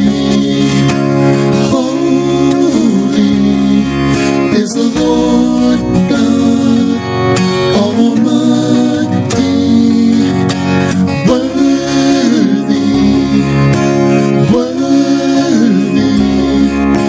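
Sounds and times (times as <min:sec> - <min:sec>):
instrumental backing: 0:00.0 - 0:17.0
man singing a slow song: 0:00.0 - 0:17.0.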